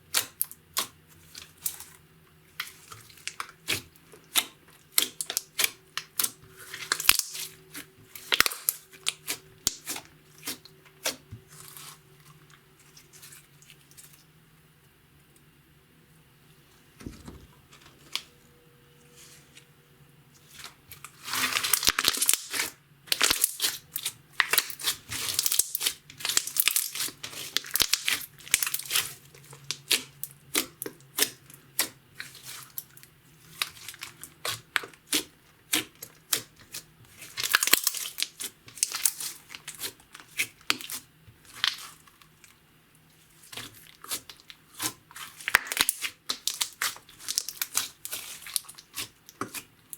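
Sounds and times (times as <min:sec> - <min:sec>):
sticky slime crackling and popping: 0:00.1 - 0:12.0, 0:20.6 - 0:42.5, 0:43.2 - 0:49.9.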